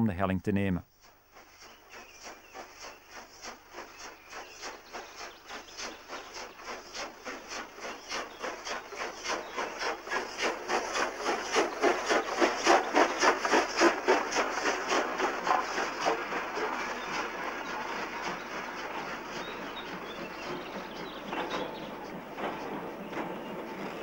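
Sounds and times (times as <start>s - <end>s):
steam locomotive chuffing: 1.0s - 24.0s.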